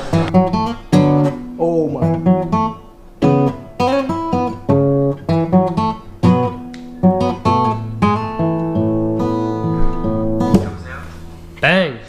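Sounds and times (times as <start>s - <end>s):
guitar strumming chords: 0.0s - 11.6s.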